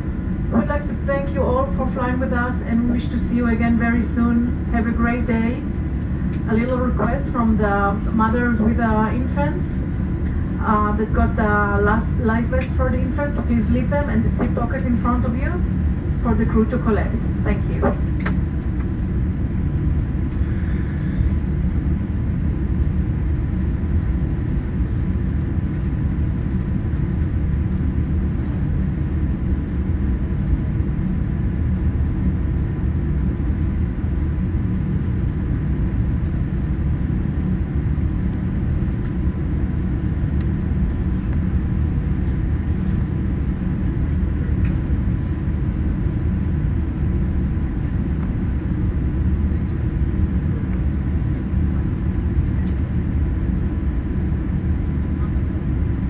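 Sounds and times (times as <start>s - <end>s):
low rumble of cabin noise: 0.0s - 56.0s.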